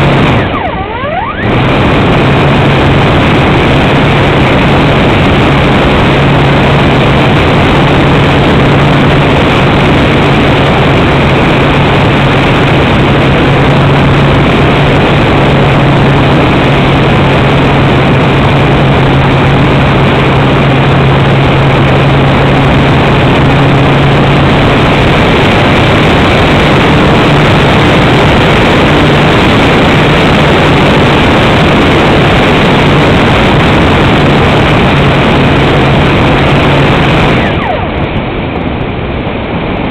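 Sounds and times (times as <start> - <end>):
model plane propeller and motor: 0.0 - 37.5
low drone: 0.0 - 39.9
wind rush over microphone: 0.0 - 39.9.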